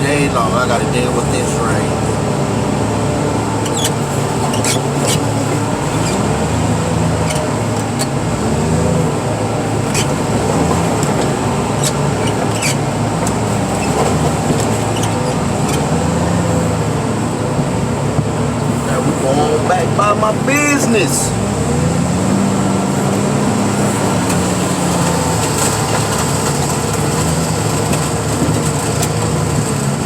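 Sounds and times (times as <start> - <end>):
diesel engine under load: 0.0 - 30.0.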